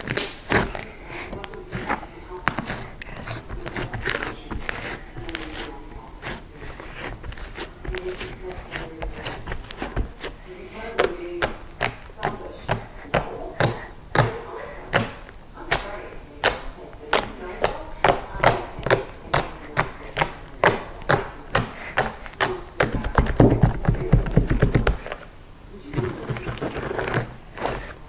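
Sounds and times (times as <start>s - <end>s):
fingertips poking slime: 0.0s - 25.2s.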